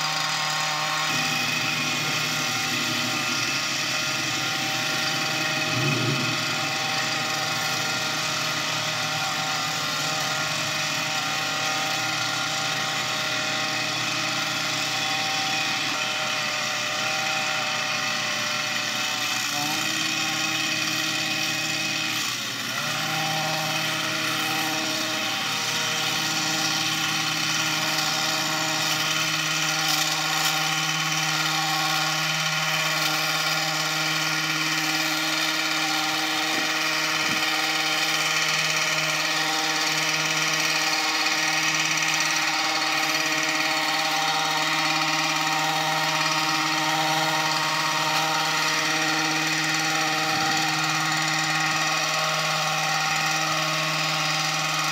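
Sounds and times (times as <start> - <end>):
hedge trimmer engine running: 0.0 - 54.9.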